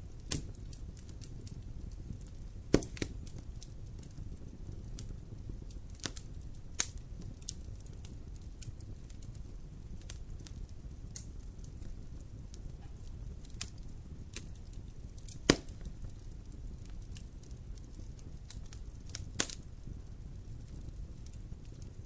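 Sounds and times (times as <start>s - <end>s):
burning wood popping: 0.0s - 22.0s
wood fire crackling: 0.0s - 22.0s.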